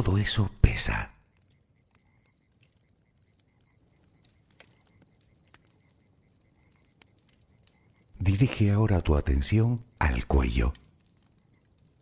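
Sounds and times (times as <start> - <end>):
bonfire crackling: 0.0 - 12.0.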